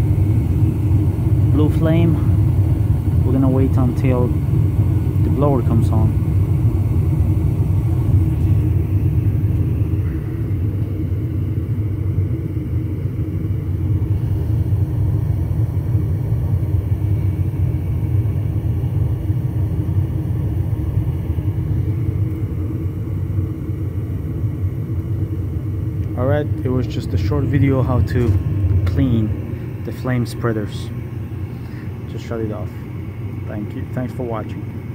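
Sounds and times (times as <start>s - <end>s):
faint mechanical hum: 0.0s - 34.9s
furnace burner rumble: 0.0s - 34.9s.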